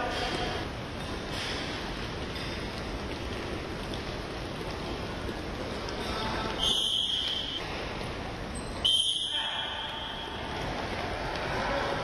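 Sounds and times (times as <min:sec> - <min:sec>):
large hall background noise: 0:00.0 - 0:12.0.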